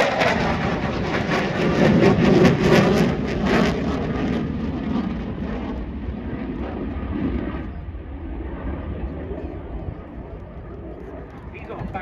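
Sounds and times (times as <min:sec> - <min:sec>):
jet engines crackling roar: 0:00.0 - 0:12.0.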